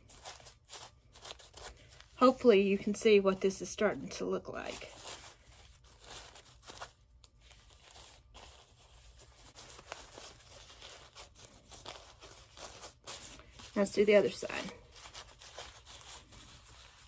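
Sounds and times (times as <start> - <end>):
thin plastic rustling and crinkling: 0.0 - 17.0.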